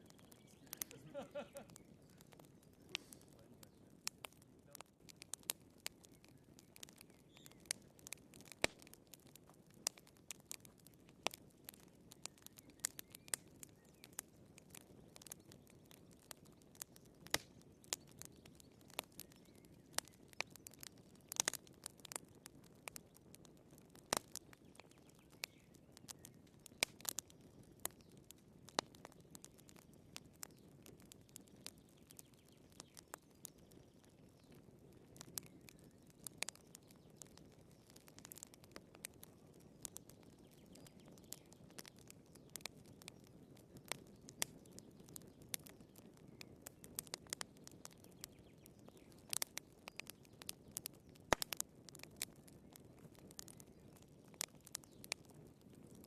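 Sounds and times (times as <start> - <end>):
firewood popping and snapping: 0.0 - 56.0
soft low hiss of fire: 0.0 - 56.0
wood fire crackling: 0.0 - 56.0.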